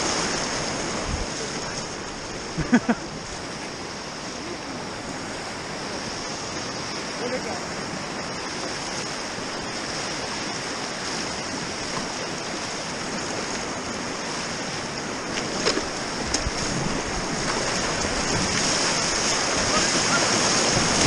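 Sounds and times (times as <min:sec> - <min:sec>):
paddle splashes: 0:00.0 - 0:21.0
rushing whitewater: 0:00.0 - 0:21.0.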